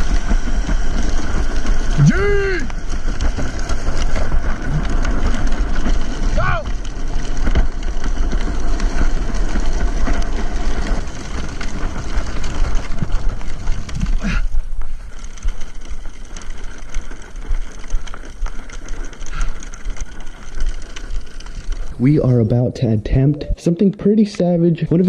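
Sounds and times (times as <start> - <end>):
wind rumbling on microphone: 0.0 - 23.8
wheels and frame rattling: 0.0 - 25.0.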